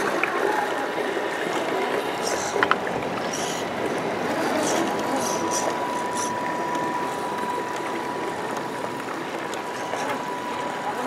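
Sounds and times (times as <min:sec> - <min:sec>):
rushing stream water: 0:00.0 - 0:11.0
toy truck motors whining: 0:01.5 - 0:11.0.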